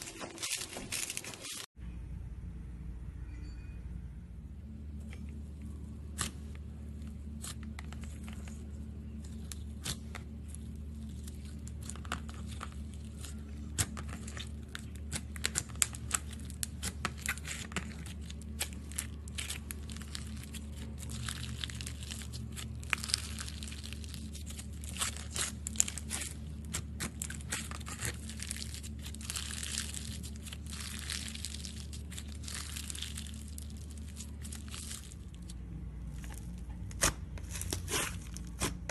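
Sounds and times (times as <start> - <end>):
slime crackling and popping: 7.2 - 38.9.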